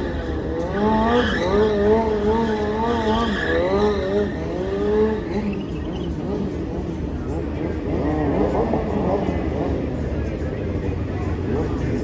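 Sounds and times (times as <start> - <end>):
motorcycle engine revving hard: 0.0 - 10.0.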